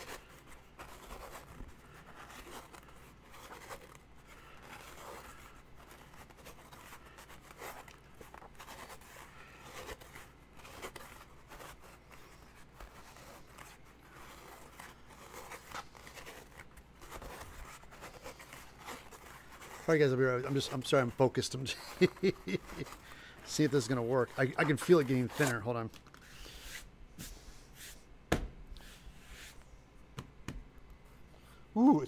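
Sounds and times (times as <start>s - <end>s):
scratchy sanding strokes on foam: 0.0s - 28.1s, 28.8s - 29.7s.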